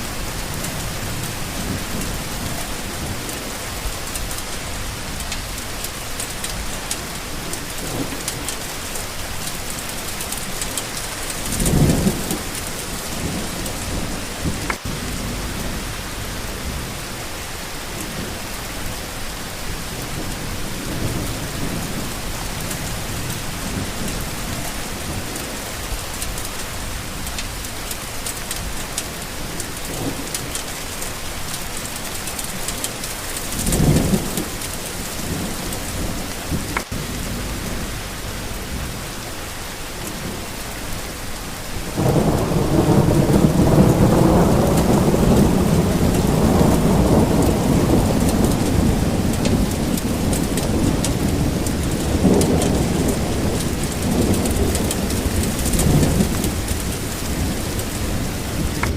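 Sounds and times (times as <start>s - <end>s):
steady rain: 0.0s - 58.9s
thunder rumbling: 0.0s - 58.9s.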